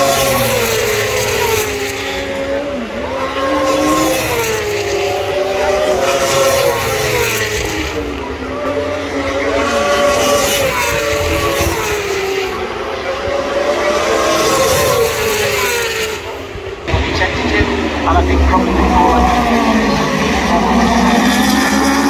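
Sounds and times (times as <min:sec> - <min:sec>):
racing motorbike engines: 0:00.0 - 0:22.0.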